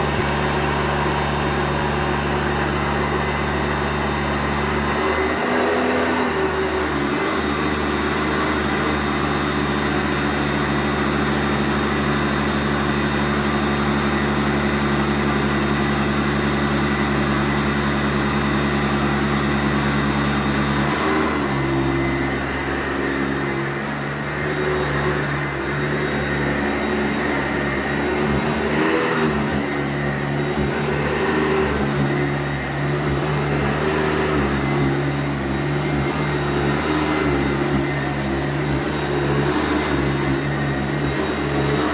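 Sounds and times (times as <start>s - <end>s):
vacuum cleaner on carpet: 0.0s - 41.9s.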